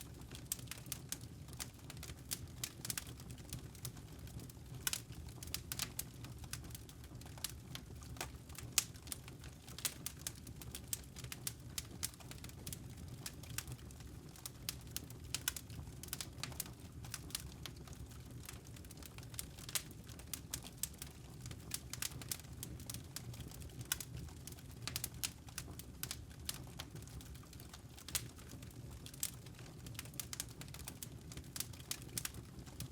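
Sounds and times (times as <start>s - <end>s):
low rumble of burning logs: 0.0s - 32.9s
campfire crackling and popping: 0.1s - 32.9s.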